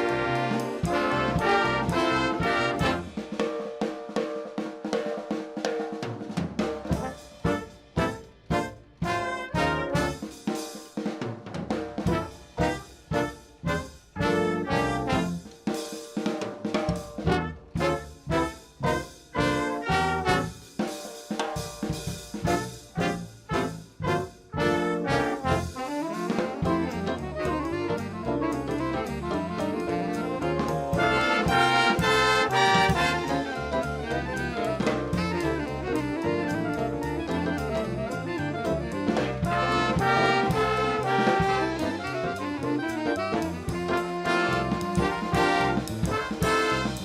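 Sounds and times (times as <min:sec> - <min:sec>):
jazz band music: 0:00.0 - 0:47.0.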